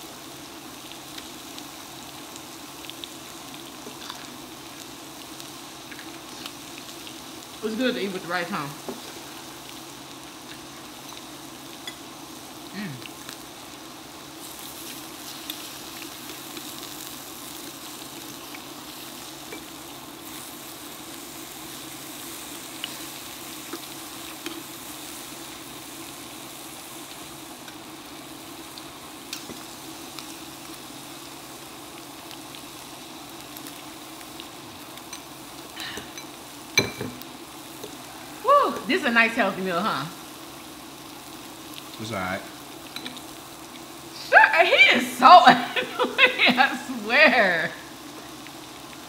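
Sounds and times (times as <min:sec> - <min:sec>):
food sizzling on a grill: 0:00.0 - 0:49.0.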